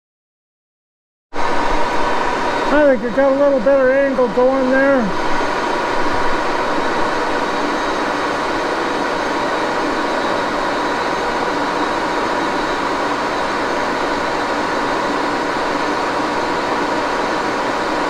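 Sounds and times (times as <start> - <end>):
lathe gearing whine: 1.4 - 18.0
lathe mechanical hum: 1.4 - 18.0.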